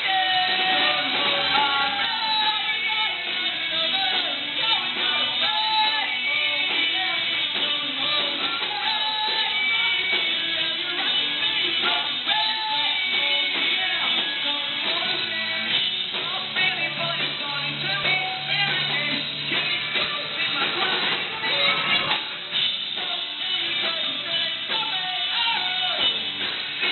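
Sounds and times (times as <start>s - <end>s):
person singing: 0.0s - 26.9s
rock band playing: 0.0s - 26.9s.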